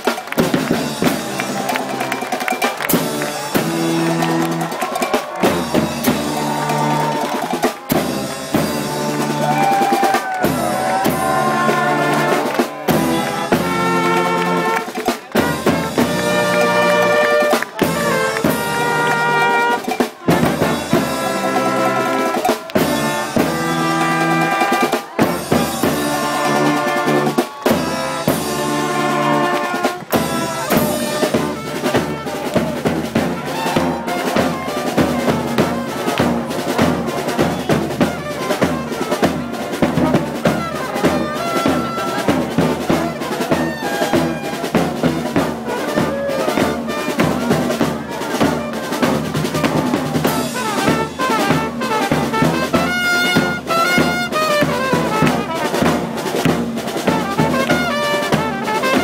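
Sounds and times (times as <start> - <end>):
bass drum and snare beat: 0.0 - 59.0
brass marching band playing: 0.0 - 59.0.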